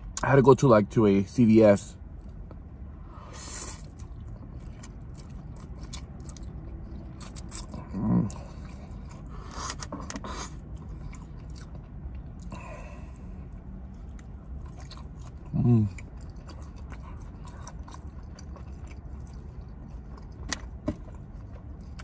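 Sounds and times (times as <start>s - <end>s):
low steady hum: 0.0s - 22.0s
wet chewing: 3.4s - 22.0s.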